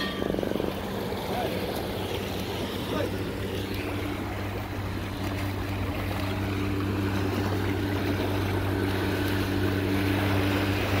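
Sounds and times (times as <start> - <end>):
motorboat engine running: 0.0 - 11.0
water lapping against rocks: 0.0 - 11.0.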